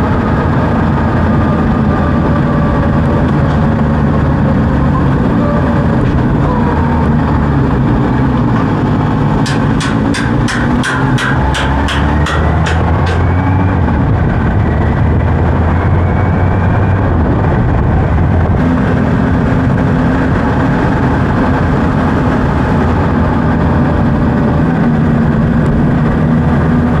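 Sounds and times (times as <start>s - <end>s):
motorcycle engine running: 0.0s - 27.0s
wind rush over microphone: 0.0s - 27.0s.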